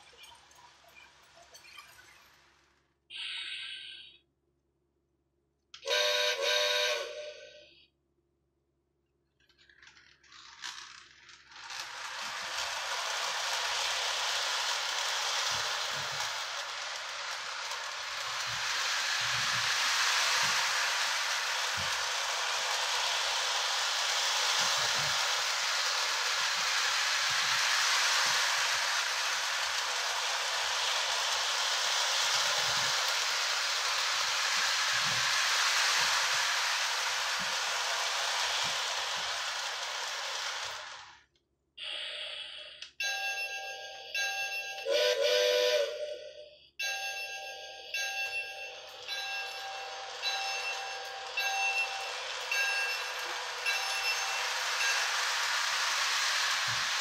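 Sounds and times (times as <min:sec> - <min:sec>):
toy train wheels rattling on track: 0:00.0 - 0:04.0, 0:09.3 - 0:41.4, 0:42.8 - 0:57.0.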